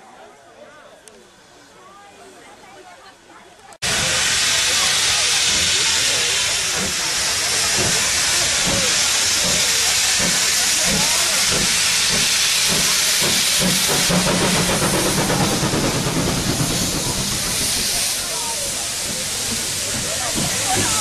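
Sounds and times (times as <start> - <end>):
locomotive rhythmic rumble: 3.8 - 21.0
steam hissing: 3.8 - 21.0.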